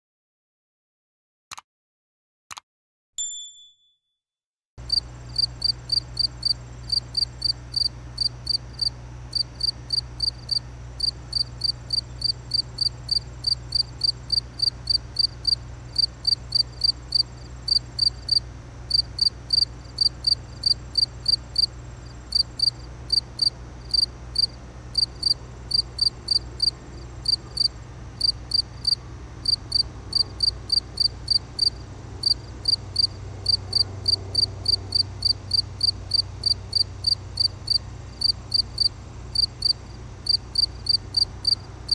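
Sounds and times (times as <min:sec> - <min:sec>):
cricket chirping: 0:04.8 - 0:41.9.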